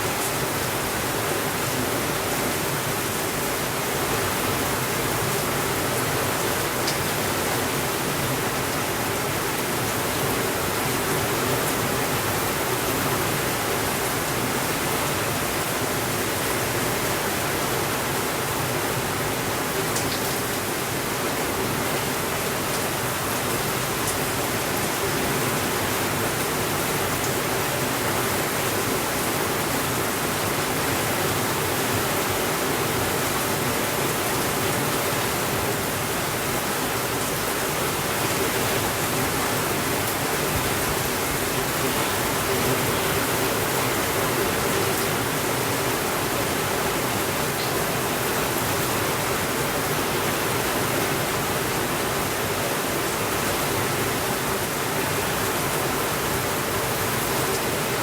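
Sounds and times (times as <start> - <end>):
steady rainfall hiss: 0.0 - 58.0.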